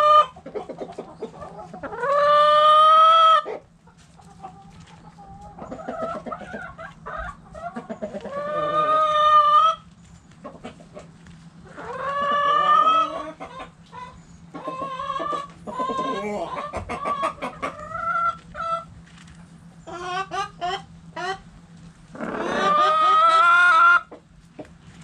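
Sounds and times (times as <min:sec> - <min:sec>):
chicken long drawn-out calls: 0:00.0 - 0:19.0, 0:19.8 - 0:24.7
chickens clucking: 0:00.0 - 0:25.0.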